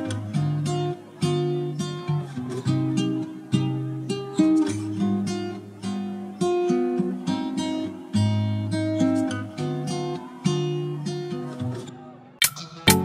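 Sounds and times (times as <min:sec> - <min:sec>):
acoustic guitar plucked chords: 0:00.0 - 0:13.0.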